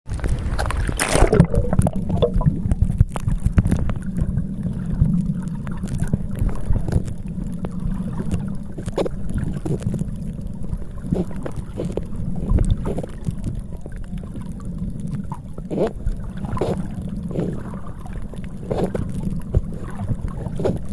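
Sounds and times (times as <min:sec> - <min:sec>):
sea washing: 0:00.1 - 0:20.9.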